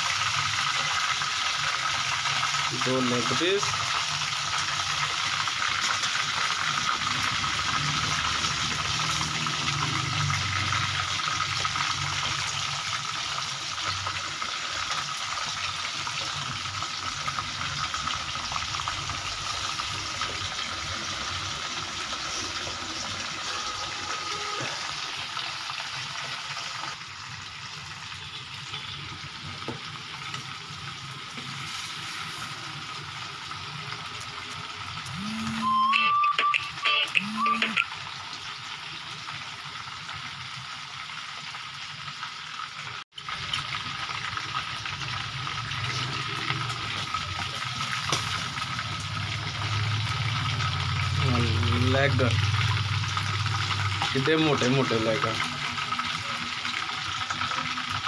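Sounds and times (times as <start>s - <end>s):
chicken sizzling in oil: 0.0s - 58.0s.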